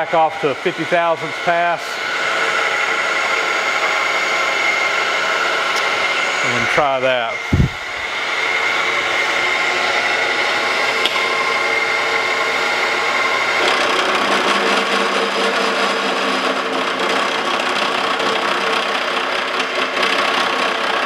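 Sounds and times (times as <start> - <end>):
milling machine cutting metal: 1.2 - 21.0.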